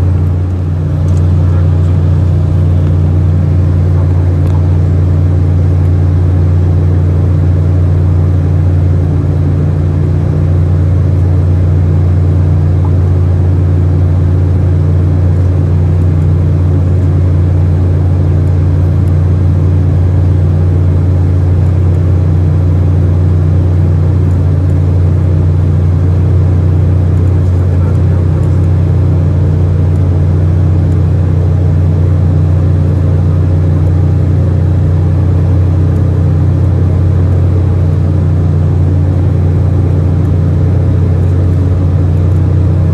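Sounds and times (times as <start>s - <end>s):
cabin airflow rush: 0.0s - 42.9s
jet engine low hum: 0.0s - 42.9s.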